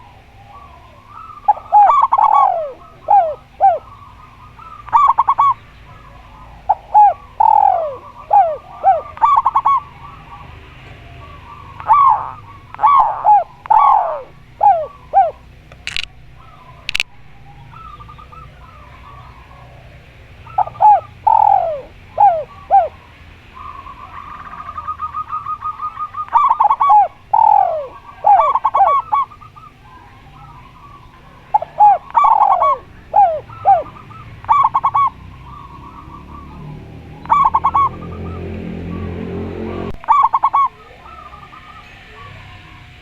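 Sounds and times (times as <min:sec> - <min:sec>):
faint chirping: 0:00.0 - 0:39.2
doves cooing: 0:00.0 - 0:43.0
rapid run of higher coo notes: 0:00.0 - 0:43.0.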